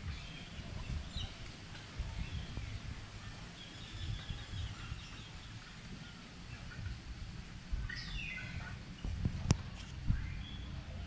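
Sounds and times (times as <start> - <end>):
low rumble on microphone: 0.0 - 11.0
small birds chirping: 0.0 - 11.0.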